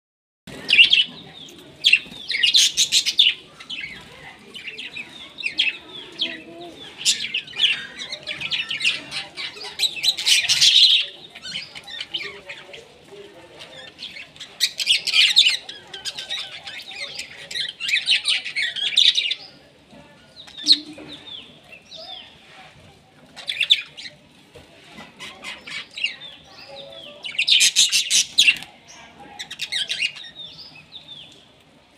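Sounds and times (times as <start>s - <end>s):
birds chirping: 0.5s - 22.5s, 25.0s - 31.9s.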